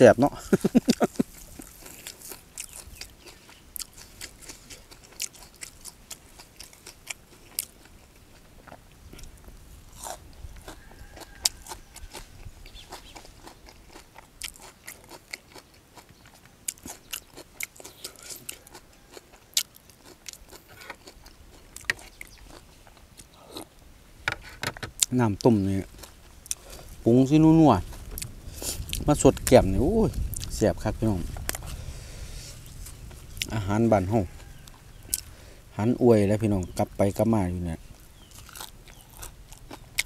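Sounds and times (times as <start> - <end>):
chewing and crunching food: 0.3 - 23.8, 25.0 - 40.0.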